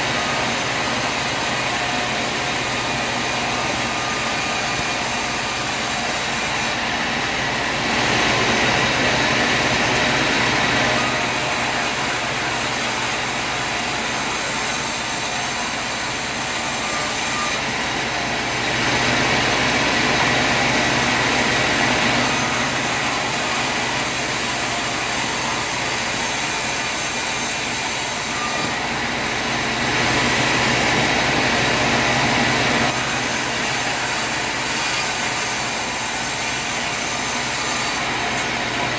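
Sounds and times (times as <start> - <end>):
saw cutting through wood: 0.0 - 38.9
sawmill machinery running: 0.0 - 38.9.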